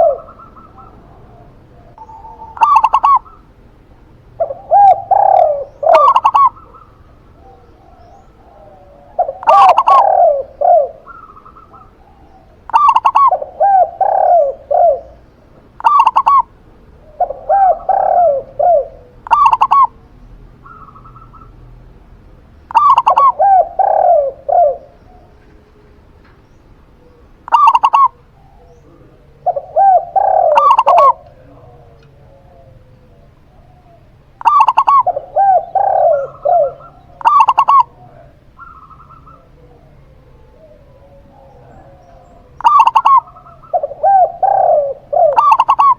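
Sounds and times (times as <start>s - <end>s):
doves cooing: 0.0s - 45.9s.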